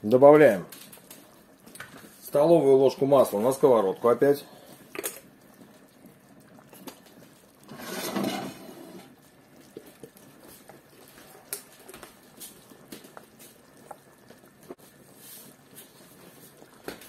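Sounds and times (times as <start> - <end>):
soup bubbling in a pot: 0.1 - 17.0.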